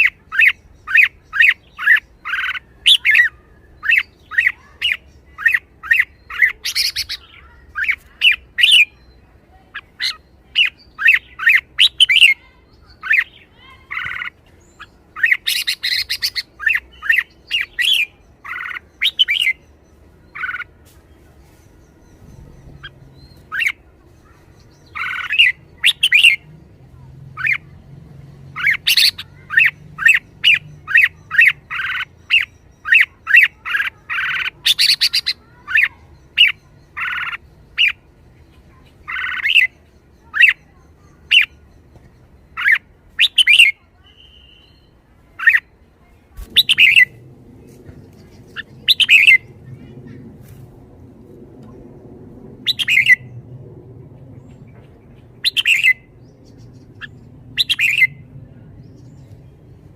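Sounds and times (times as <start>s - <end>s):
bulbul chattering calls: 0.0s - 27.8s, 28.5s - 47.2s, 48.0s - 50.5s, 52.7s - 53.3s, 54.6s - 58.2s.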